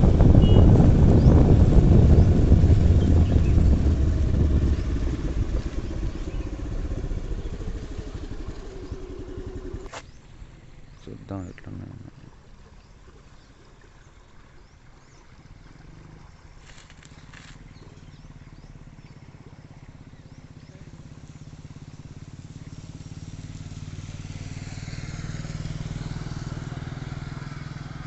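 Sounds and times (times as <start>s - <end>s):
vehicle engine running: 0.0s - 12.0s, 14.7s - 28.0s
road and wind hiss: 0.0s - 28.0s.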